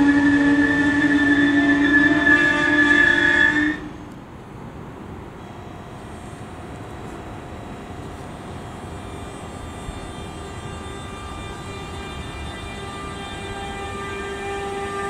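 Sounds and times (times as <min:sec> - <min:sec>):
electric locomotive hum and rumble: 0:00.0 - 0:15.0
faint high whine: 0:00.0 - 0:15.0.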